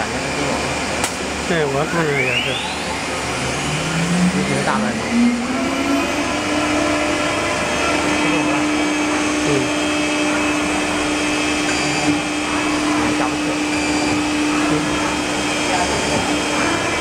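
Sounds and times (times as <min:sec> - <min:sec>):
wood router machine drone: 0:00.0 - 0:17.0.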